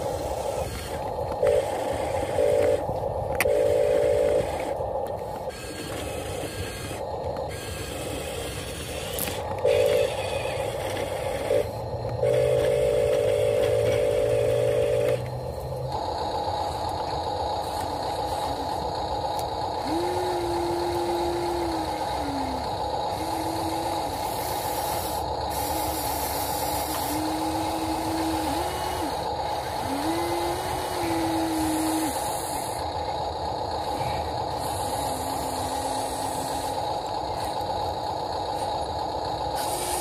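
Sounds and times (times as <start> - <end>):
small electric motor whining: 0.0 - 40.0
toy truck motor tones: 0.0 - 40.0.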